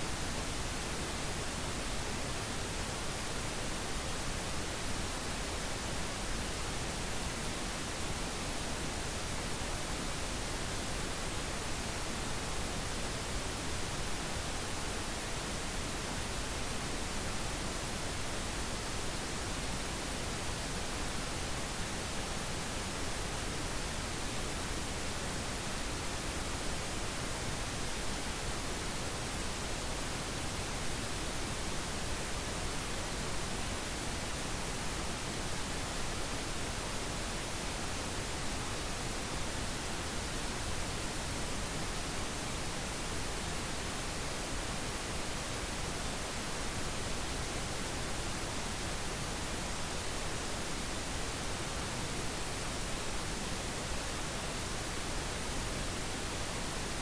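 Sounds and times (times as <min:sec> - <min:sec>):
steady pink noise hiss: 0:00.0 - 0:57.0.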